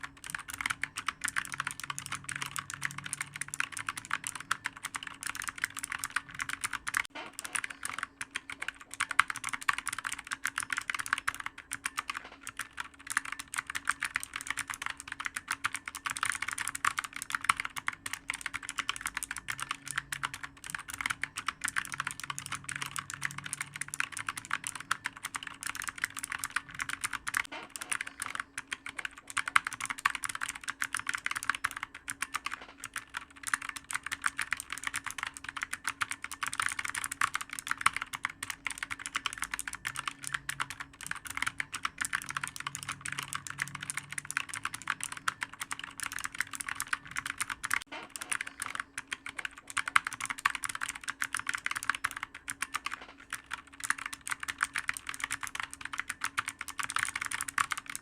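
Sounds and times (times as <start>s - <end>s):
faint steady hum: 0.0s - 58.0s
fast keyboard typing: 0.0s - 58.0s.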